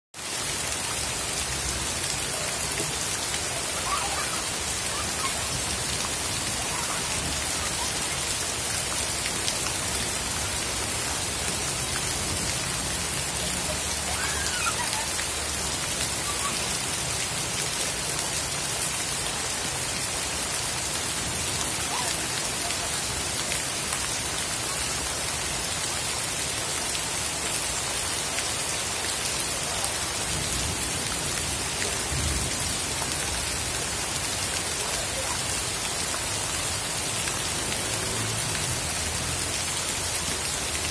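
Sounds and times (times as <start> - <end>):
heavy rain falling: 0.2 - 40.9.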